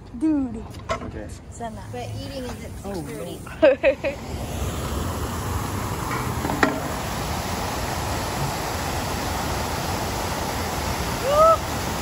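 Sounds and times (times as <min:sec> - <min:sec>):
fountain water rushing into pool: 0:01.8 - 0:12.0.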